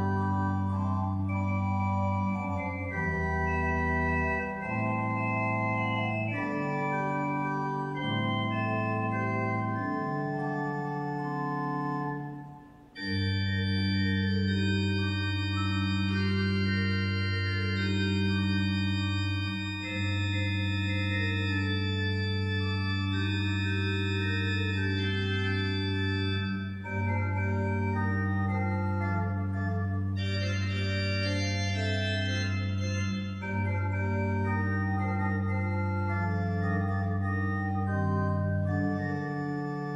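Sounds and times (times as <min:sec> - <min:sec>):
organ chords: 0:00.0 - 0:39.9.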